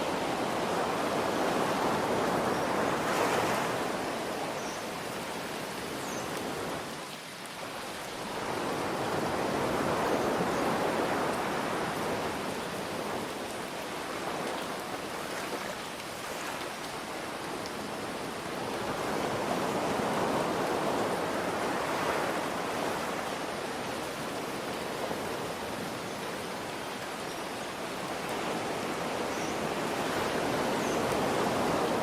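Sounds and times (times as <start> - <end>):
ocean waves washing in: 0.0 - 6.9, 7.8 - 32.0
rain hiss: 0.0 - 32.0.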